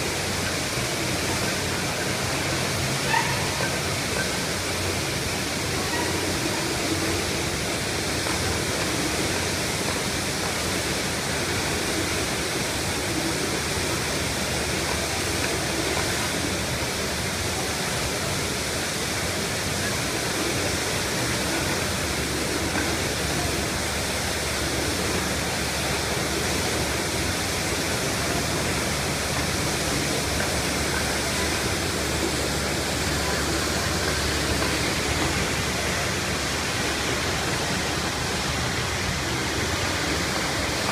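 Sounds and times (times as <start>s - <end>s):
water gushing from hydrant: 0.0s - 40.9s.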